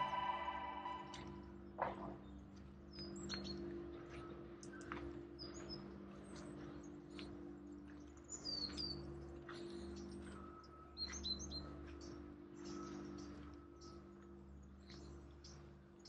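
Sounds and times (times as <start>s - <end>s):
faint low hum: 0.0s - 16.0s
small birds chirping: 2.2s - 16.0s.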